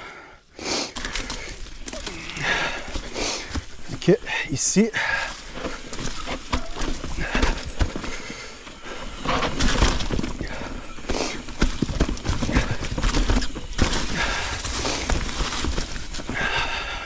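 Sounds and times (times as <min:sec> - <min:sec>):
bike knocking and rattling: 0:00.9 - 0:17.0
bike tyres rolling over rock and leaves: 0:00.9 - 0:17.0.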